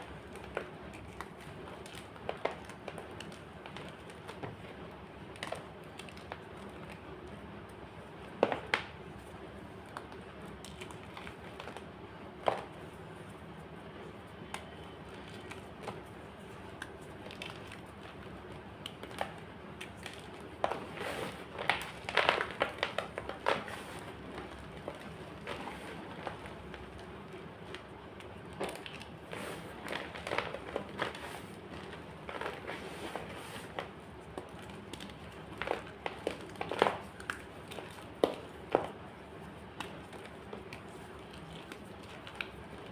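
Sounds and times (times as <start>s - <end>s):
chalk crunching and cracking: 0.0s - 42.9s.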